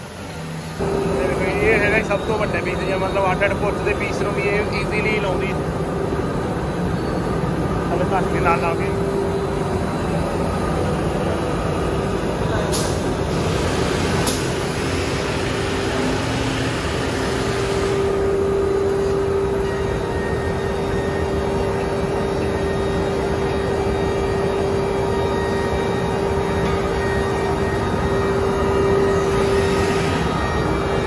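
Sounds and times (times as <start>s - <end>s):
machine hum with whine: 0.0s - 31.0s.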